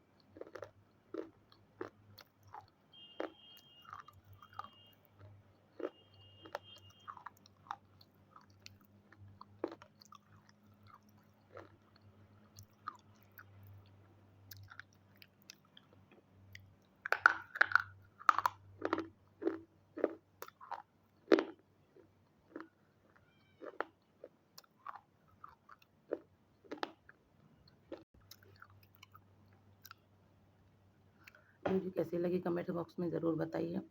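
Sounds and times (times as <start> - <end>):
crunchy chewing: 0.1 - 30.1.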